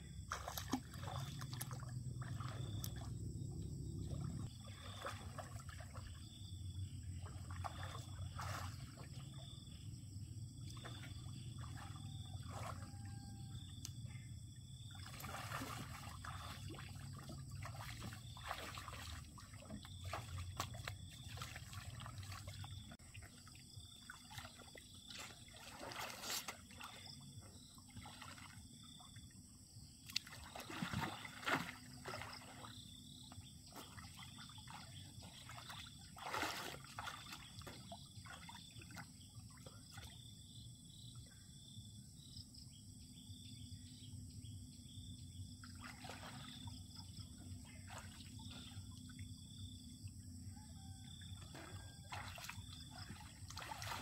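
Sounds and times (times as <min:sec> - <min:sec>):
water sloshing and splashing: 0:00.0 - 0:41.9, 0:44.6 - 0:54.0.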